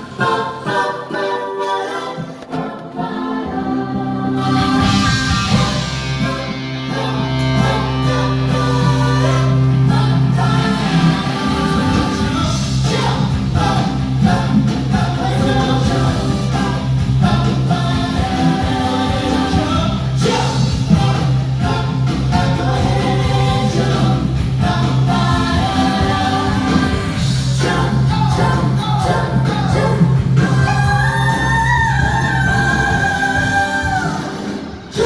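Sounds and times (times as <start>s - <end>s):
sustained bass: 4.0s - 35.0s
live band music: 4.1s - 35.0s.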